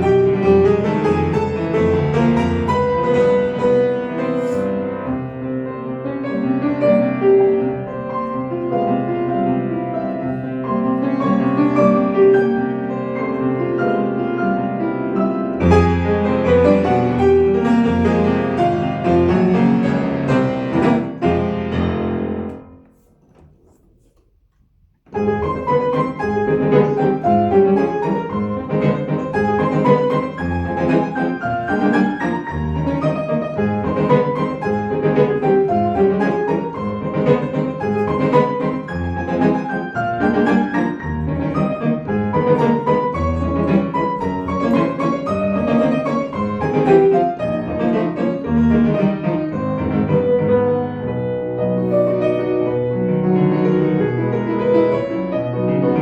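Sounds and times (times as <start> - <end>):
solo piano classical music: 0.0 - 56.0.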